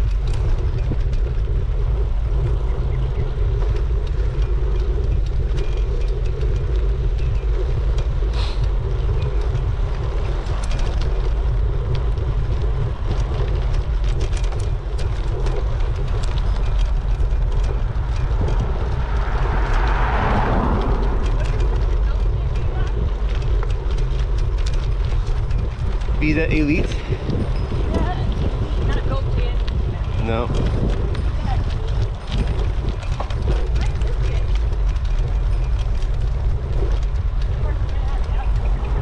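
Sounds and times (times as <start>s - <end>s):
small clicks and rattles: 0.0s - 39.0s
tyre and road noise: 0.0s - 39.0s
wind buffeting microphone: 0.0s - 39.0s.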